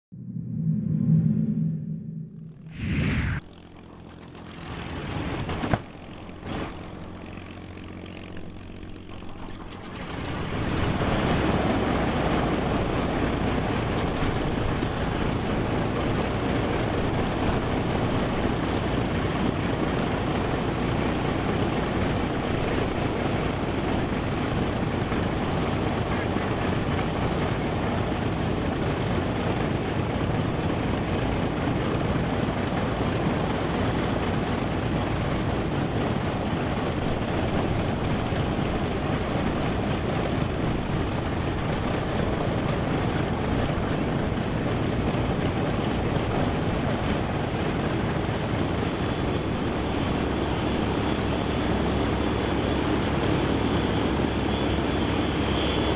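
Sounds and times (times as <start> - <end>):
aircraft radial engine starting: 0.2 - 55.9.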